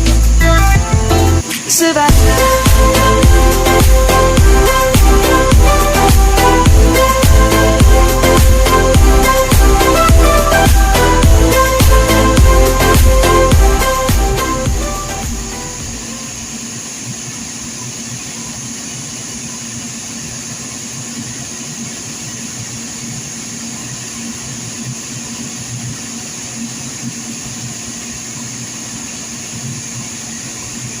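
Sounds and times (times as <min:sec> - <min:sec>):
pump motor humming and hissing: 0:00.0 - 0:31.0.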